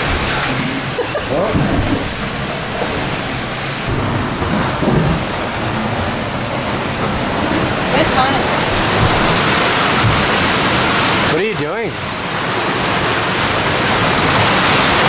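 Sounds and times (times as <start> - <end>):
rough sea rumbling: 0.0 - 15.0
strong wind: 0.0 - 15.0.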